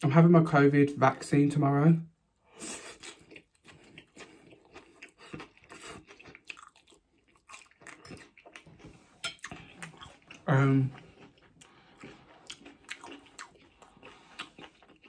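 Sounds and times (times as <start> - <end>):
man chewing noodles: 2.4 - 15.0.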